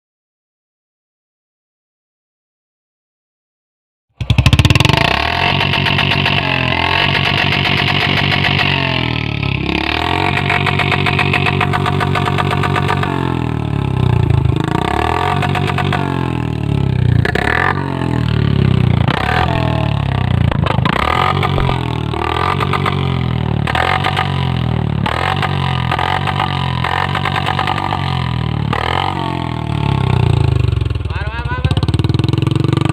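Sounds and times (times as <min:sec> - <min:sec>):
motorcycle engine revving: 0:04.2 - 0:32.9.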